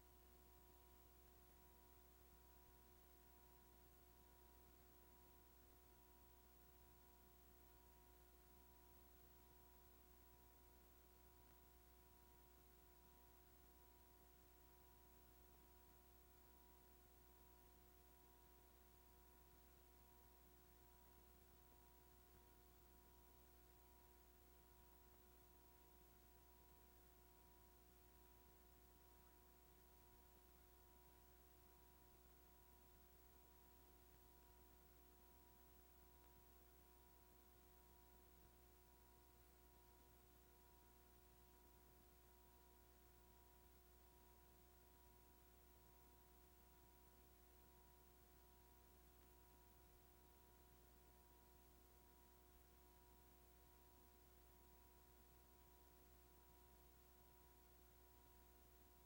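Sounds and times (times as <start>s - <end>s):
faint electrical hum and hiss: 0.0s - 59.0s.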